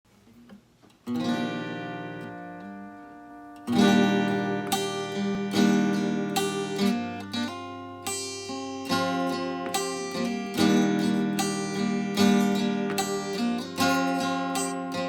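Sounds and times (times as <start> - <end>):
acoustic guitar strumming: 0.8 - 15.0.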